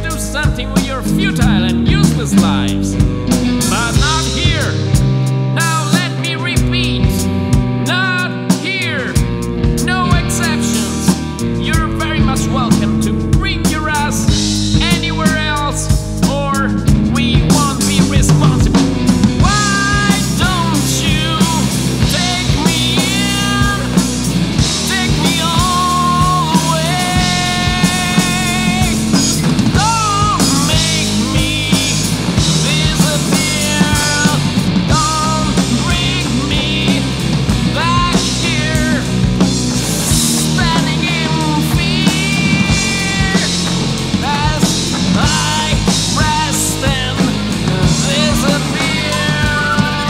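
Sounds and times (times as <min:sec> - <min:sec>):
bass line: 0:00.0 - 0:50.0
bending electric guitar lead: 0:00.0 - 0:50.0
drum beat: 0:00.0 - 0:50.0.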